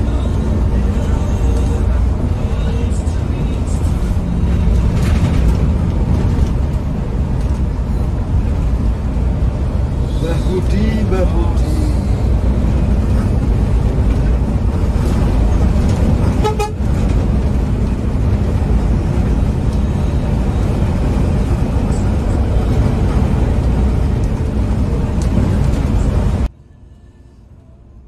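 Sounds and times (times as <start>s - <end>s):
coach engine and road rumble: 0.0s - 28.0s.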